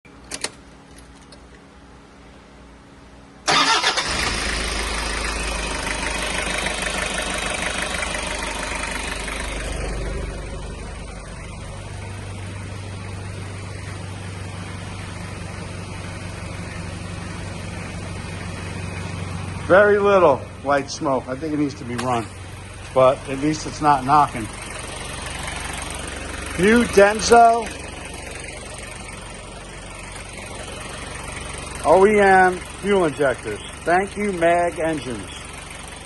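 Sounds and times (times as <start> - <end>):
diesel engine starting and idling: 3.4 - 36.0.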